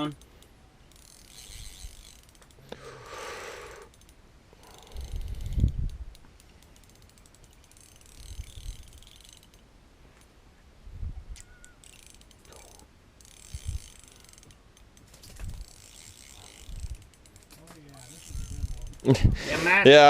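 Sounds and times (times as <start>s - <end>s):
fishing reel clicking and ratcheting: 0.0s - 9.6s, 11.4s - 19.2s.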